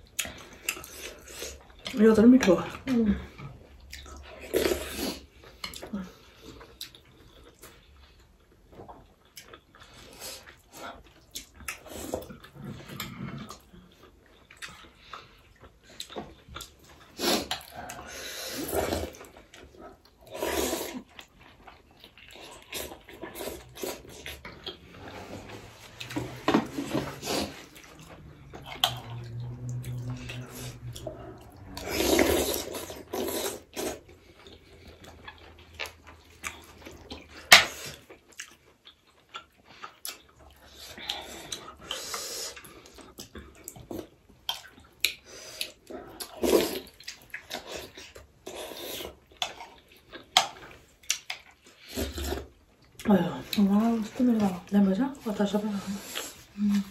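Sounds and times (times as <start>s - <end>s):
wet chewing and slurping: 0.0s - 54.8s.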